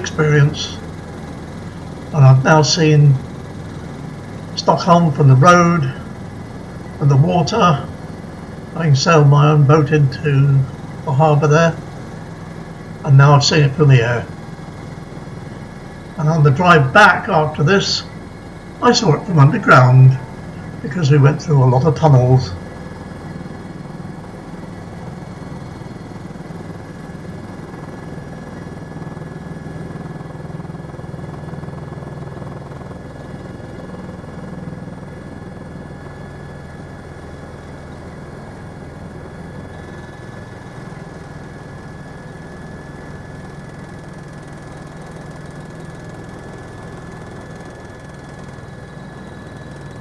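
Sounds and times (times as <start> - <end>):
helicopter engine and rotor: 0.0 - 50.0.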